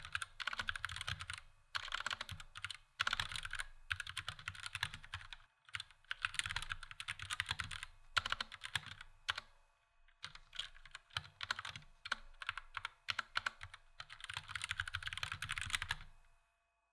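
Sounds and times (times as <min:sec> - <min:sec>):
mechanical keyboard typing: 0:00.0 - 0:09.5, 0:10.2 - 0:16.1.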